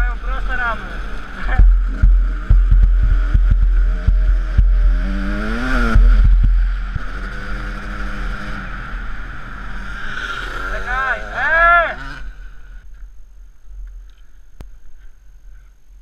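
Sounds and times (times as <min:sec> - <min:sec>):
two-stroke motorcycle engine revving: 0:00.0 - 0:12.8.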